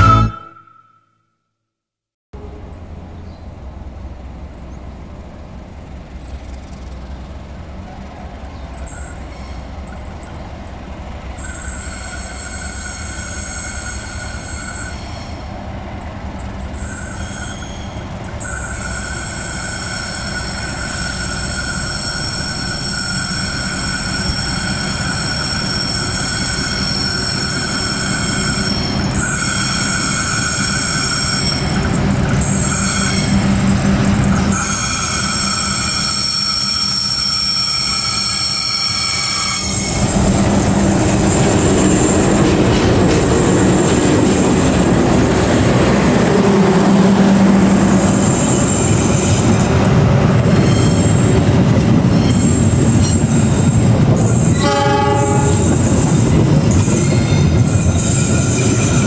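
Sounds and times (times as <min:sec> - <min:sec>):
locomotive engine rumbling: 0:02.4 - 0:38.5, 0:39.3 - 0:59.0
train wheels squealing on curves: 0:08.5 - 0:10.5, 0:11.3 - 0:15.6, 0:16.3 - 0:59.0.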